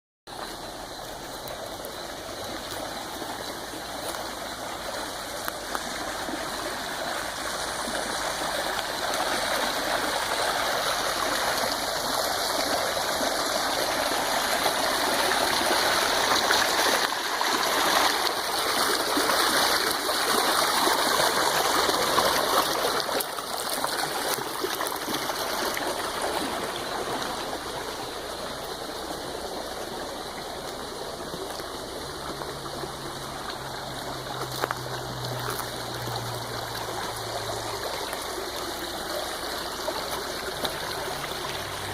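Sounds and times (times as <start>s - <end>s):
stream water rushing: 0.3s - 41.9s.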